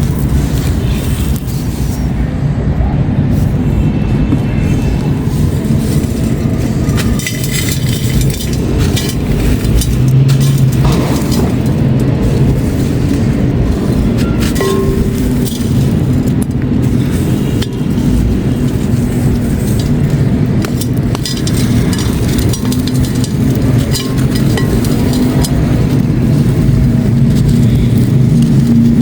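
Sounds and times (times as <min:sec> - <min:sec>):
steady low rumble: 0:00.0 - 0:29.0
concrete crunching: 0:04.4 - 0:29.0.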